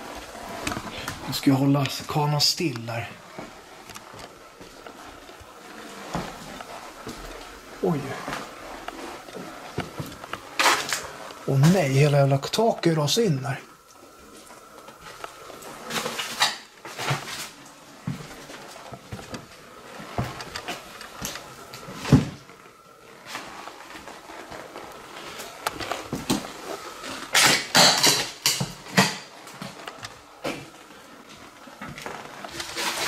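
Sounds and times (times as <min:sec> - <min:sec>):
footsteps crunching on debris: 0:00.0 - 0:33.0.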